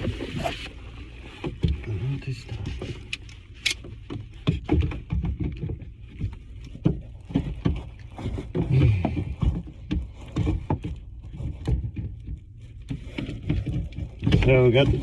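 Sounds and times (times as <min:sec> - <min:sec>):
knocks and thumps in crawl space: 0:01.3 - 0:15.0.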